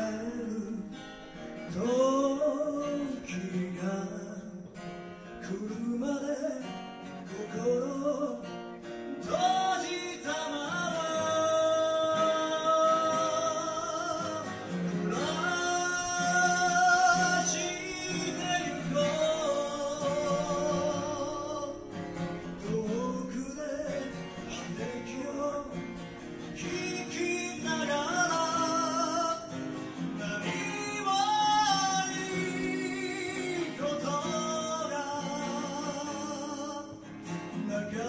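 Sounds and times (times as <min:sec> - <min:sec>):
man singing: 0:00.0 - 0:38.0
strummed acoustic guitar: 0:00.0 - 0:38.0.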